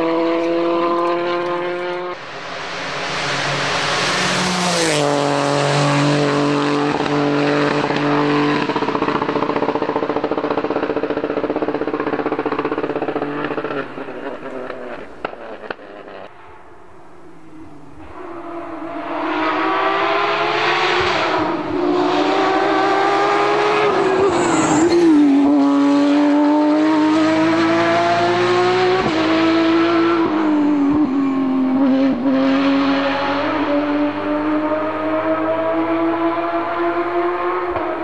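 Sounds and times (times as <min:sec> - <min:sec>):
rally car engine at high revs: 0:00.0 - 0:16.4, 0:17.2 - 0:38.0.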